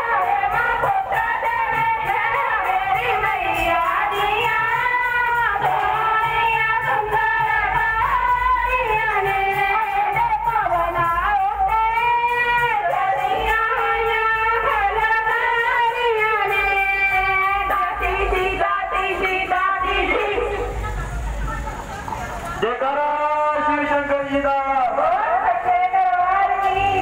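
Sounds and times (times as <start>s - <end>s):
devotional singing over loudspeakers: 0.0s - 27.0s.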